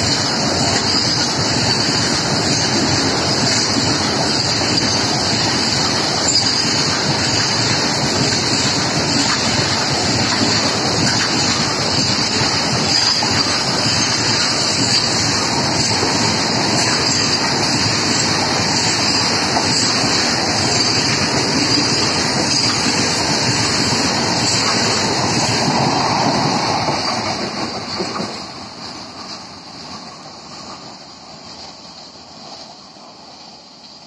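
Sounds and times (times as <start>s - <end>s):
freight train passing: 0.0s - 34.0s.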